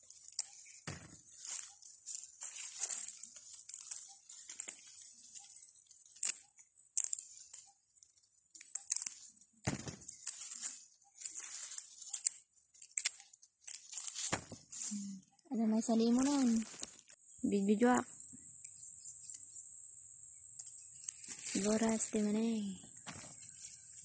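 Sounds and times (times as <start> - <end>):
dry plants rustling and crackling: 0.0 - 19.4, 20.4 - 24.0.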